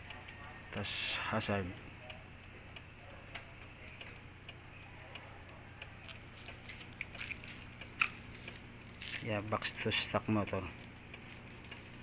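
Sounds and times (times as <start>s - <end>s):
flasher relay ticking: 0.0s - 12.0s
low steady hum: 0.0s - 12.0s.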